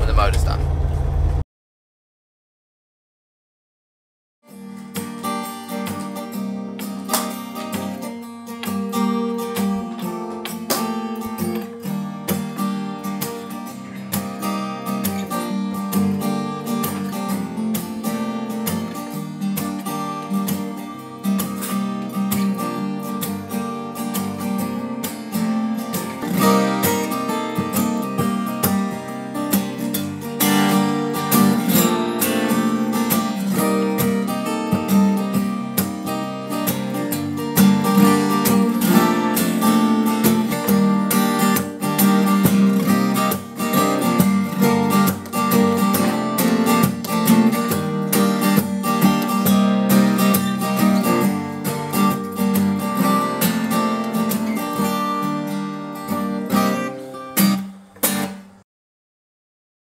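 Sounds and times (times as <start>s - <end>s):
acoustic guitar duet: 4.4s - 58.6s.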